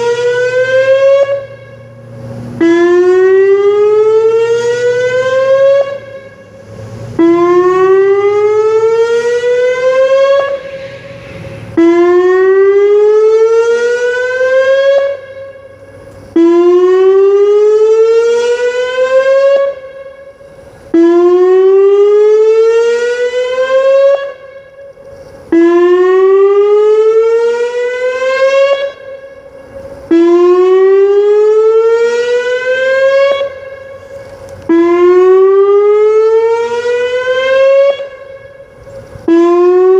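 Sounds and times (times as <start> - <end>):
rising warning siren: 0.0 - 39.9.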